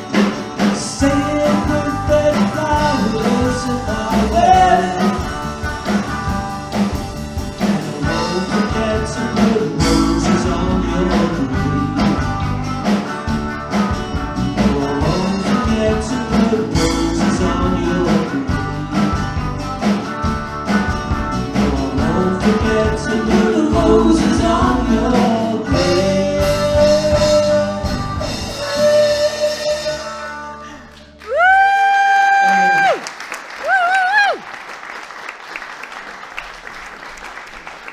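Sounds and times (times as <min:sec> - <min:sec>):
live country-rock band: 0:00.0 - 0:34.4.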